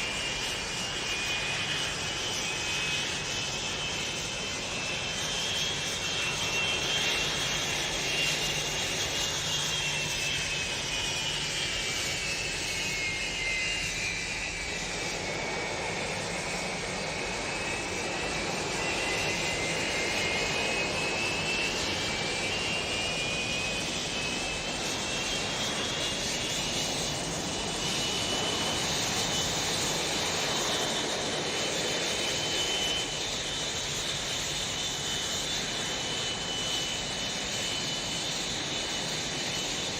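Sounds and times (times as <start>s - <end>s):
engine with sliding whine: 0.0s - 39.9s.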